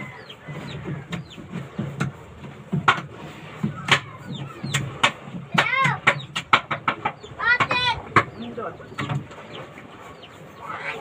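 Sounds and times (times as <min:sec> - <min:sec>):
chickens chirping: 0:00.0 - 0:11.0.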